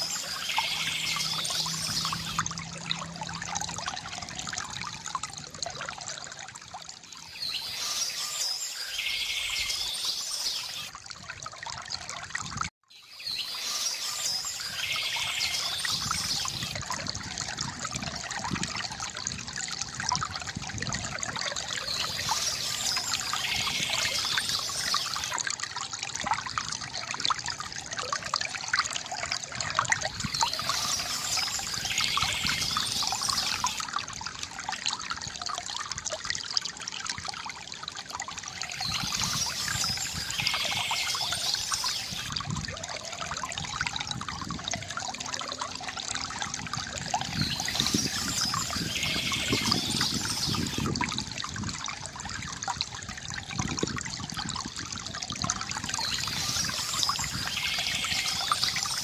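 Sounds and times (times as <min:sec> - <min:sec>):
water trickling from bamboo fountain: 0:00.0 - 0:59.0.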